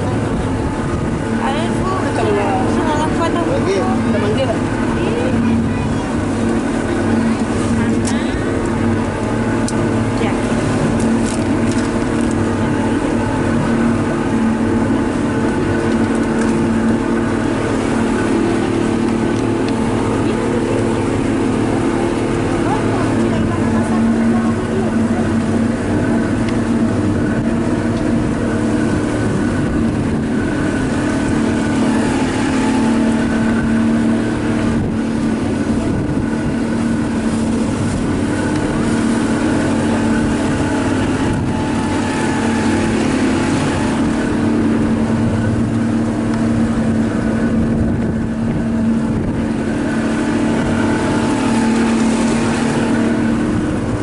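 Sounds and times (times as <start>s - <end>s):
boat engine droning: 0.0s - 54.0s
water rushing along hull: 0.0s - 54.0s.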